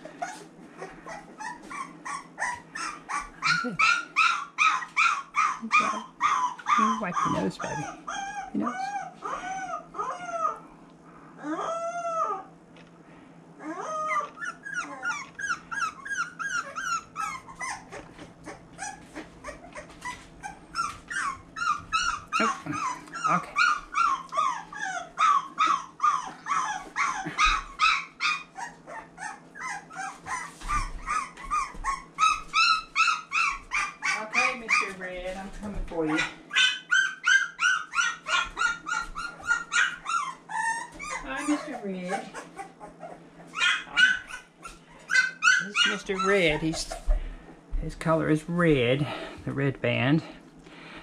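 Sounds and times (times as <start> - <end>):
puppies whining and yelping: 0.0 - 12.7, 13.5 - 35.1, 35.9 - 47.6.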